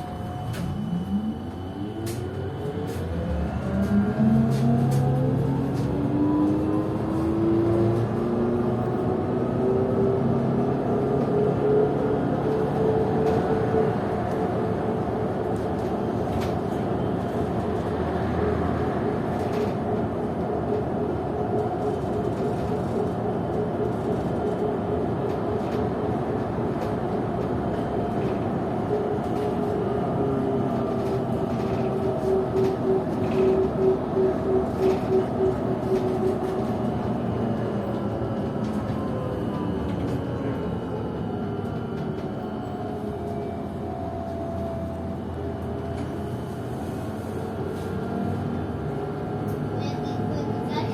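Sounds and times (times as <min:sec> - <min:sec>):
road and body rumble: 0:00.0 - 0:50.9.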